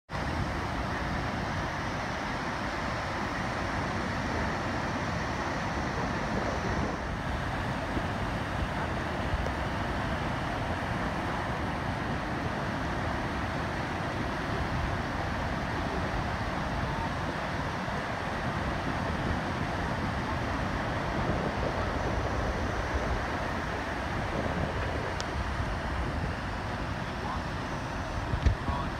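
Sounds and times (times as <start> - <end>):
small waves breaking on sand: 0.1 - 28.9
wind rumbling on microphone: 0.1 - 28.9.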